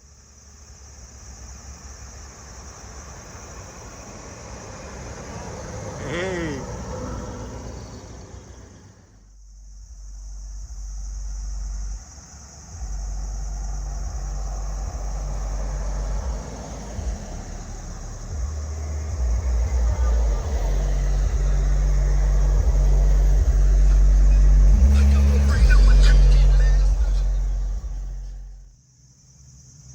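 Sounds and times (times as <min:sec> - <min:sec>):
motor vehicle rumble: 0:01.8 - 0:28.8.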